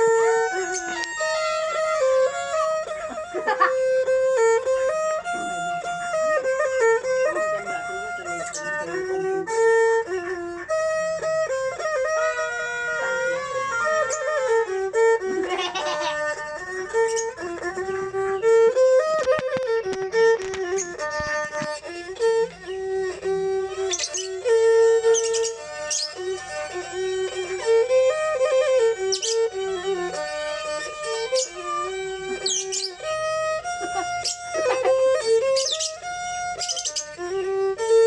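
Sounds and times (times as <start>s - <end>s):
bowed fiddles playing a melody: 0.0s - 38.0s.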